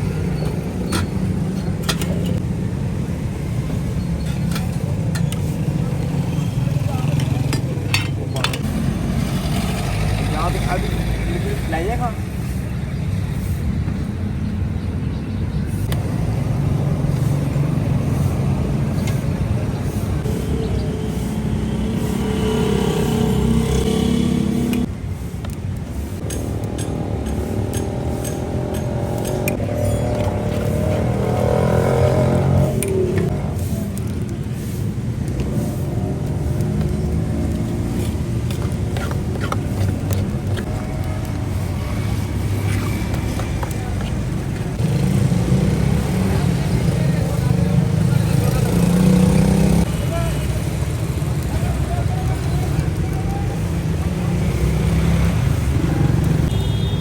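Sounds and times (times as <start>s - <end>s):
traffic engines rumbling: 0.0s - 57.0s.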